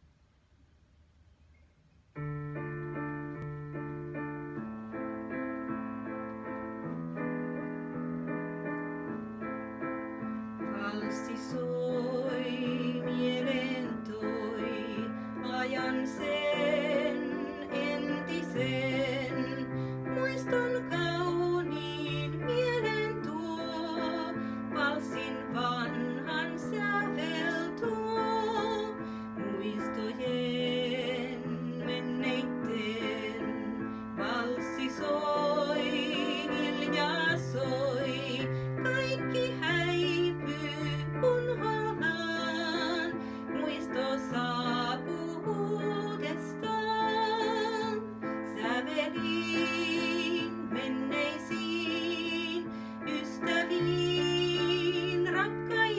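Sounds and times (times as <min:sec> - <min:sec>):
digital piano: 0:02.0 - 0:55.9
woman singing with vibrato: 0:10.7 - 0:55.9.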